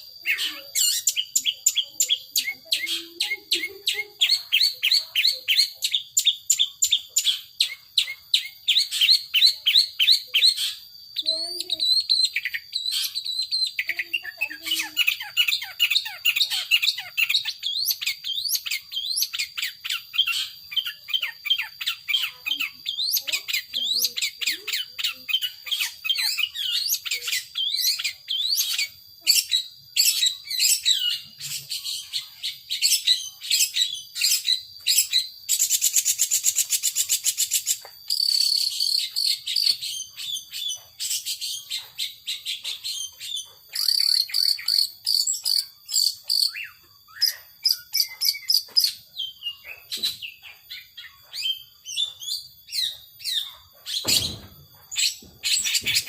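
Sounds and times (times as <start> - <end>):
bird singing chirps: 0.0 - 56.0.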